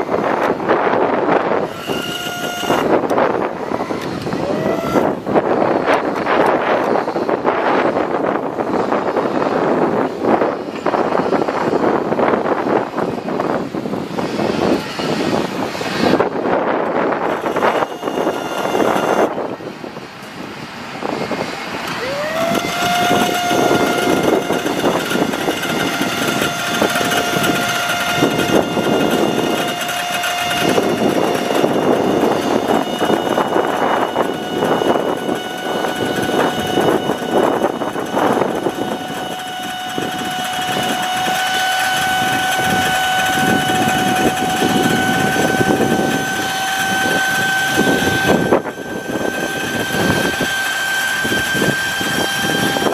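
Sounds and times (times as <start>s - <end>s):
rising machine whine: 0.0s - 52.9s
truck machinery running: 0.0s - 52.9s.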